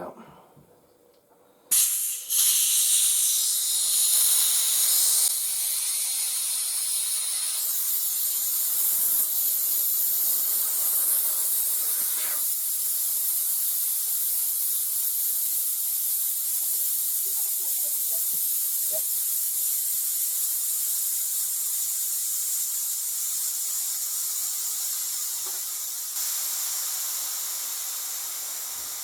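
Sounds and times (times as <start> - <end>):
compressed air hissing: 1.7 - 29.0.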